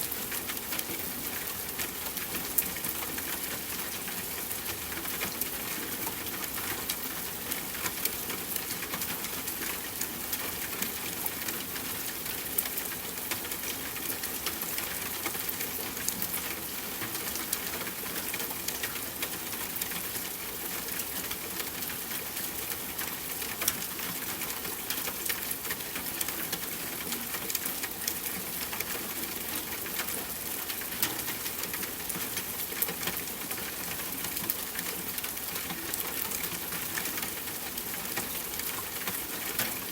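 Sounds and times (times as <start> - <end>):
soft rainfall: 0.0 - 39.9.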